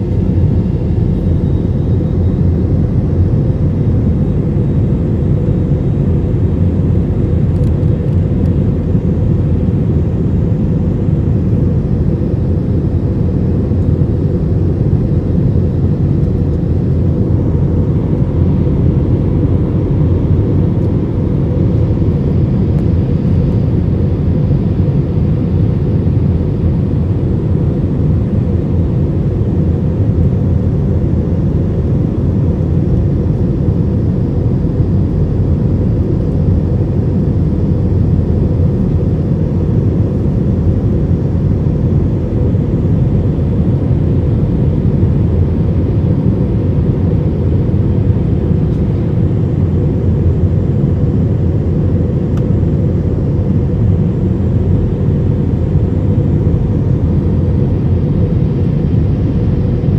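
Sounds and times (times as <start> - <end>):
jet airliner cabin rumble: 0.0 - 59.9.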